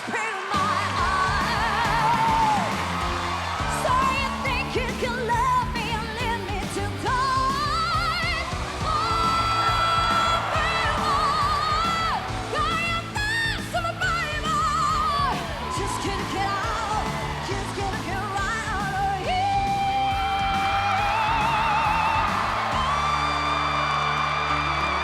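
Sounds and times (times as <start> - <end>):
band accompaniment: 0.4 - 25.0.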